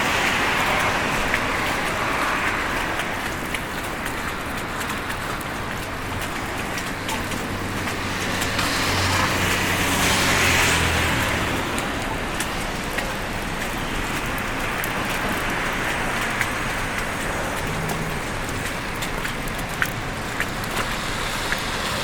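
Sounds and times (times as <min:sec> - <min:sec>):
car passing: 0:00.0 - 0:22.0.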